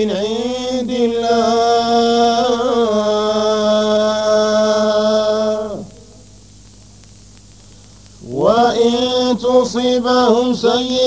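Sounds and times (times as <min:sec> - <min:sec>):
man chanting recitation: 0:00.0 - 0:06.1, 0:08.2 - 0:11.0.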